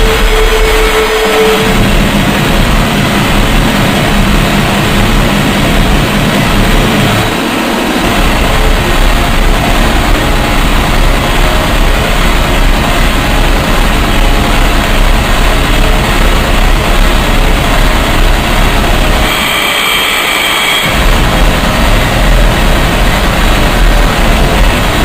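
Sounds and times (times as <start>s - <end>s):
heavy low rumble: 0.0s - 19.5s, 20.8s - 25.0s
harsh broadband noise: 0.0s - 25.0s.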